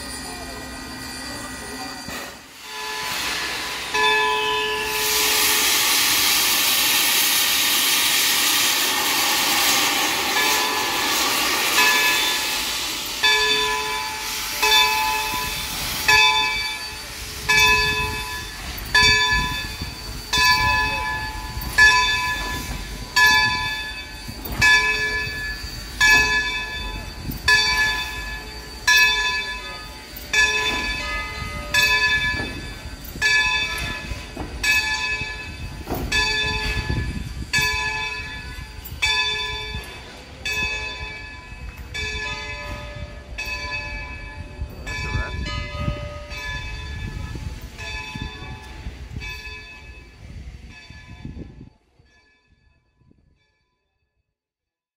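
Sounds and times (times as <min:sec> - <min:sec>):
steam locomotive bell ringing: 0:00.0 - 0:53.7.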